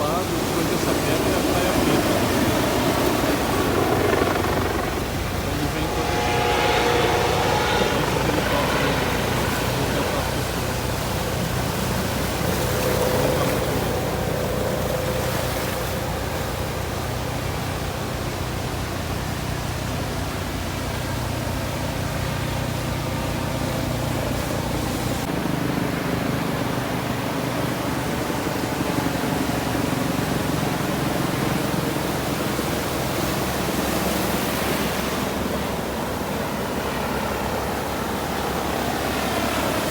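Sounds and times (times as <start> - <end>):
constant rushing noise: 0.0 - 39.9
engine drone: 0.0 - 39.9.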